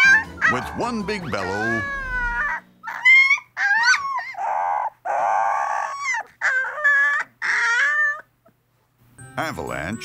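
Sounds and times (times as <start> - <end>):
puppy howling: 0.0 - 8.3.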